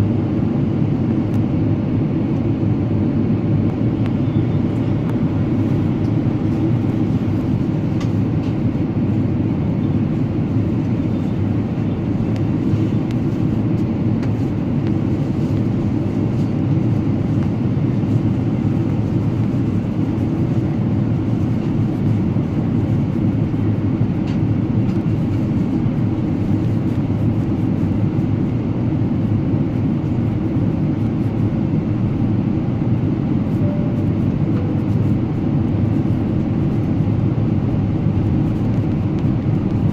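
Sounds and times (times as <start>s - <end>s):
airplane cabin airflow and engine drone: 0.0s - 39.9s.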